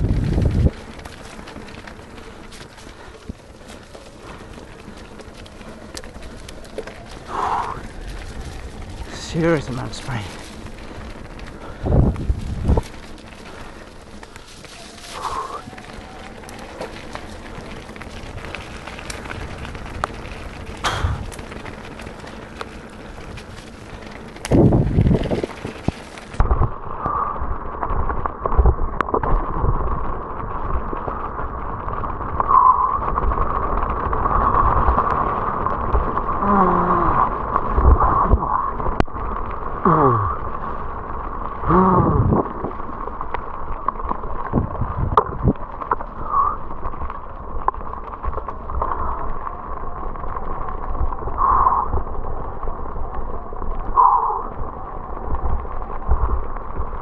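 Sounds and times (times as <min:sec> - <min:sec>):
tyres crunching over stones: 0:00.0 - 0:27.0, 0:27.6 - 0:57.0
bike rattling over bumps: 0:00.0 - 0:57.0
wind buffeting microphone: 0:00.0 - 0:57.0.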